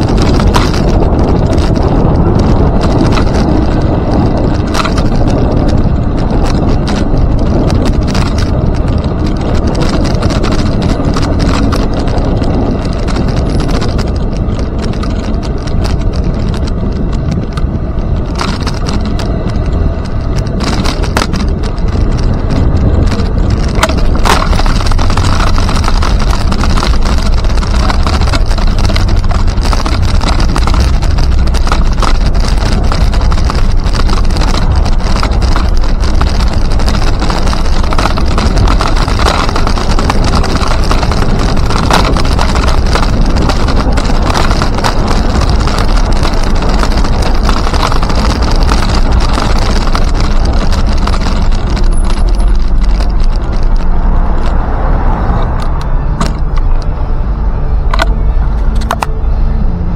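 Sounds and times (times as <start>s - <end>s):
small clicks and rattles: 0.0s - 57.0s, 57.9s - 59.2s.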